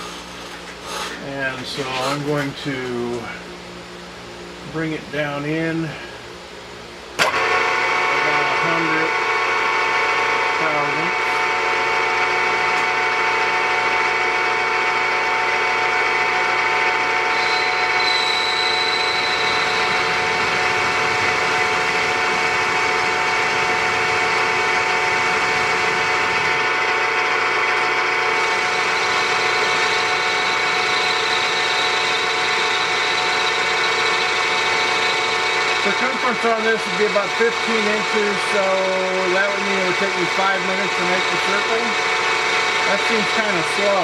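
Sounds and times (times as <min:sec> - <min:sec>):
high machine whine: 0:00.0 - 0:44.0
milling machine hum and whir: 0:00.0 - 0:44.0.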